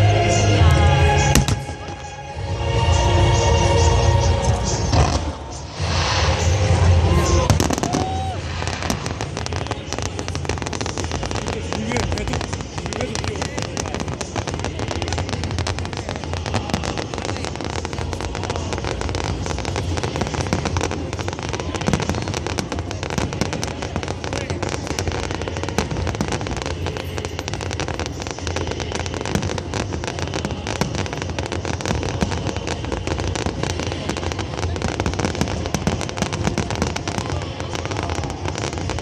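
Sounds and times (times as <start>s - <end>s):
crowd voices: 0.0s - 39.0s
fireworks crackling: 0.0s - 39.0s.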